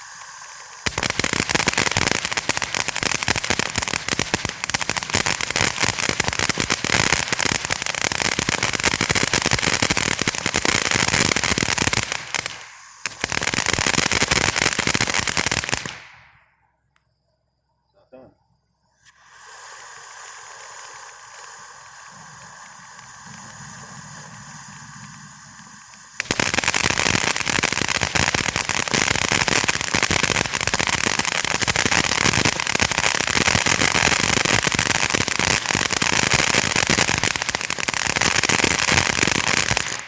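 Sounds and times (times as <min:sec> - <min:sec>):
firework fountain hissing: 0:00.0 - 0:16.5, 0:18.8 - 0:40.0
firework crackling: 0:00.0 - 0:16.6, 0:18.9 - 0:40.0.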